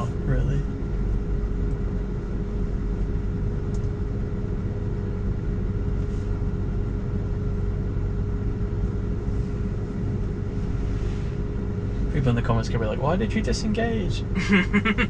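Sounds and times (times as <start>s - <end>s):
low rumble and hum in car cabin: 0.0s - 15.0s.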